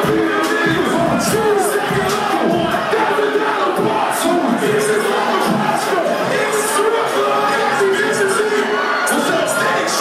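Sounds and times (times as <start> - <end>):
crowd shouting: 0.0 - 10.0
loud club music: 0.0 - 10.0.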